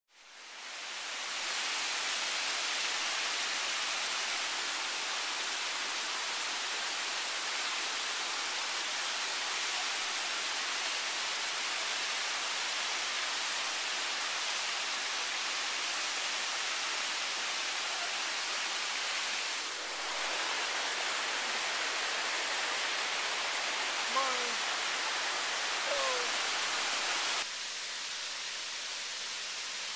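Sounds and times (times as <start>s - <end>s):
rushing creek water: 0.2s - 29.9s.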